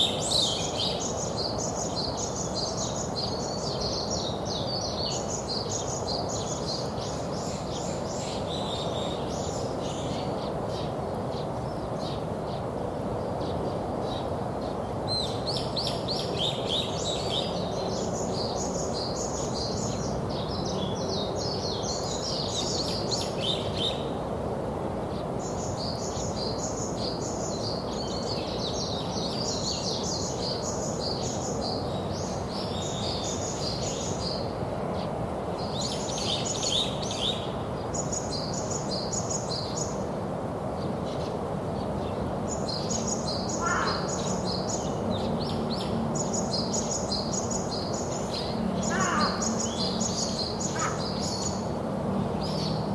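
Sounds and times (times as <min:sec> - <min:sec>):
small birds chirping: 0:00.0 - 0:24.2, 0:25.1 - 0:52.9
outdoor background hum: 0:00.0 - 0:52.9.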